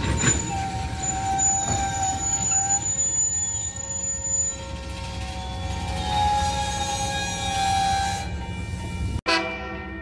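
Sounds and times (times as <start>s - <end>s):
wheels squealing: 0.0s - 8.3s
train wheels rumbling on rail: 0.0s - 9.2s.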